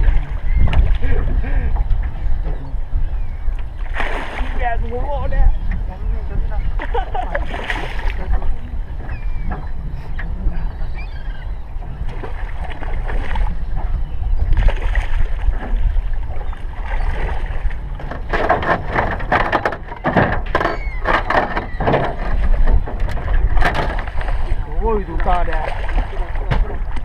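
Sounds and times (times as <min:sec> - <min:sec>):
water sloshing against boat hull: 0:00.0 - 0:27.0
wind buffeting microphone: 0:00.0 - 0:27.0.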